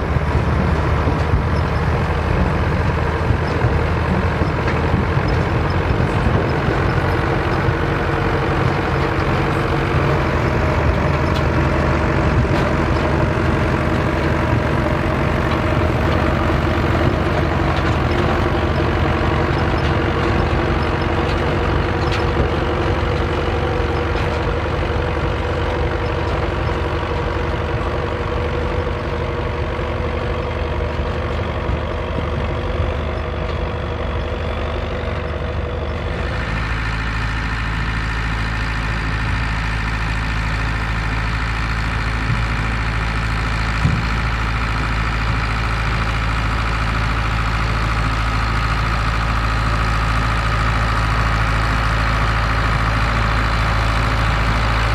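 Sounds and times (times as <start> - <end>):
deep engine drone: 0.0 - 54.9
tractor engine running: 0.0 - 54.9.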